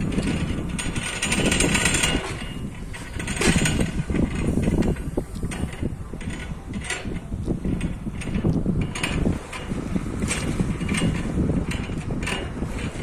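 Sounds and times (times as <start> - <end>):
well pulley creaking and clattering: 0.0 - 13.0.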